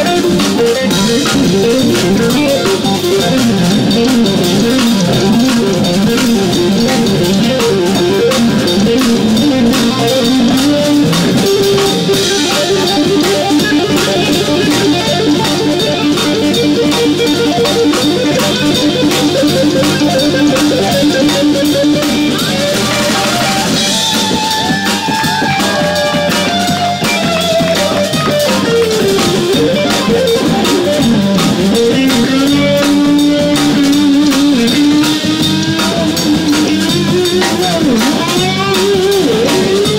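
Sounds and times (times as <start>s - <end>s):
drum kit: 0.0s - 39.9s
electric bass: 0.0s - 39.9s
electric guitar solo: 0.0s - 39.9s.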